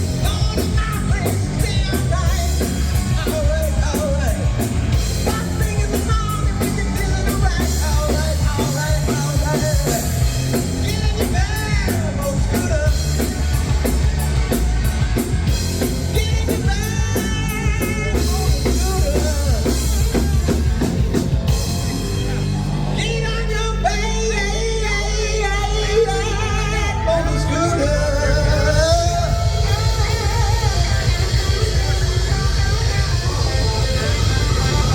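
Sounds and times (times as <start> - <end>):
person singing: 0.0 - 34.9
rock band playing: 0.0 - 34.9.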